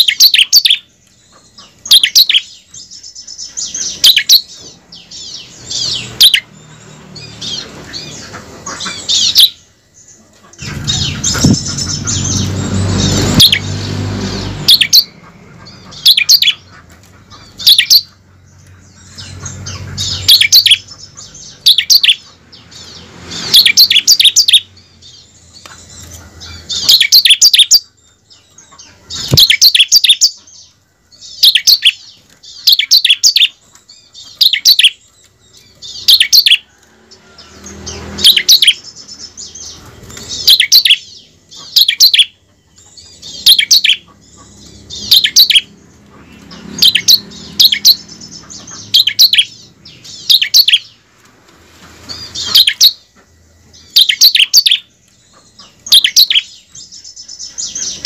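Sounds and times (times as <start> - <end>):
bird chirping high phrases: 0.0 - 36.7, 37.6 - 51.3, 51.9 - 58.0.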